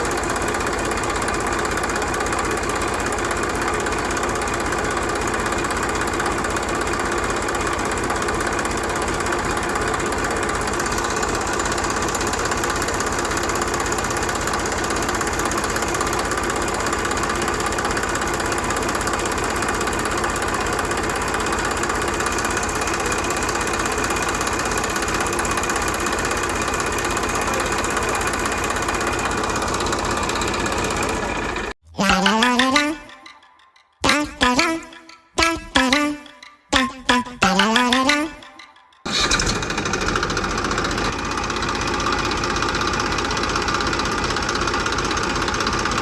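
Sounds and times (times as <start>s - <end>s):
small engine running steadily: 0.0s - 31.7s, 39.1s - 46.0s.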